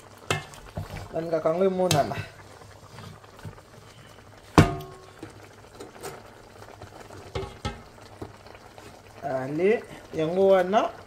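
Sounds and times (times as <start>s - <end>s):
beef sizzling in a frying pan: 0.0s - 11.0s.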